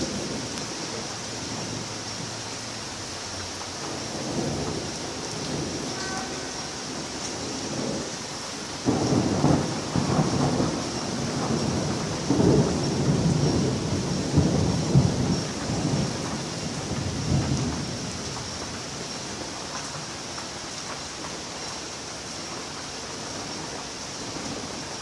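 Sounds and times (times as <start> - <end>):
thunder rumbling: 0.0 - 20.1
heavy rain hissing: 0.0 - 25.0.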